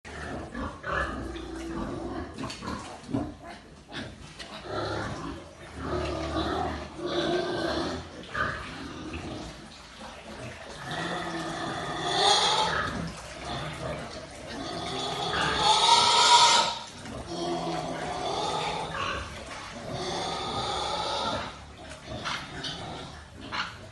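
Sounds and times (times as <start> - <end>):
pigs grunting: 0.1 - 23.9.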